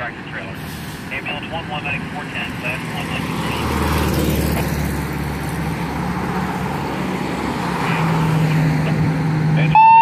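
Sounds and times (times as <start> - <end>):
cars passing close by: 0.0 - 10.0
fire truck diesel engine drone: 0.0 - 10.0.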